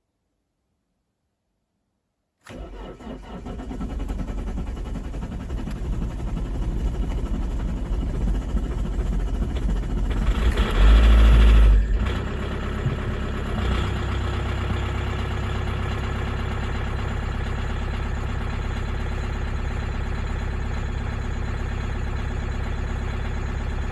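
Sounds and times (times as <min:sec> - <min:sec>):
diesel engine idling: 0:02.5 - 0:23.9.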